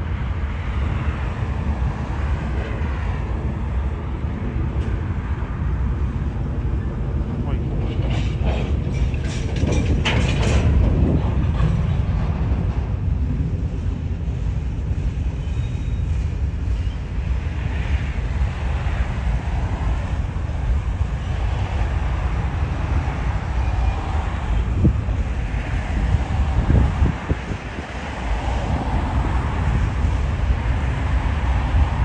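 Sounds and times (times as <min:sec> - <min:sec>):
freight train cars rolling past: 0:00.0 - 0:32.0.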